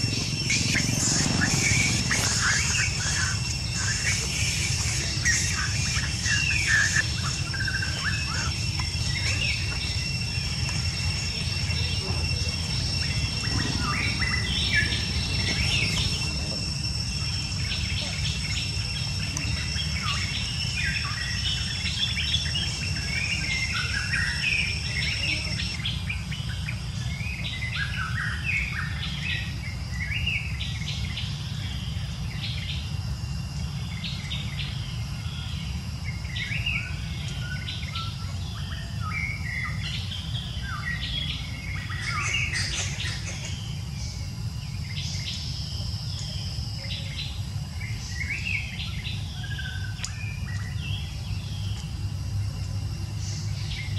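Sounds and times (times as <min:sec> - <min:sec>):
birds chirping: 0:00.0 - 0:53.9
high insect drone: 0:00.0 - 0:53.9
steady low rumble: 0:00.0 - 0:53.9.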